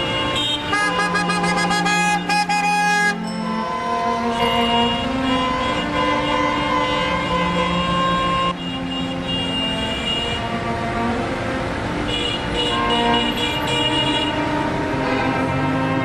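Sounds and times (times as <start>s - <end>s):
car horns honking: 0.0s - 16.0s.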